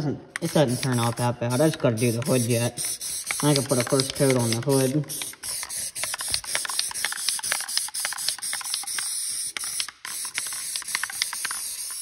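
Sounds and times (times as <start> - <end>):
paint spraying hiss: 0.4 - 12.0.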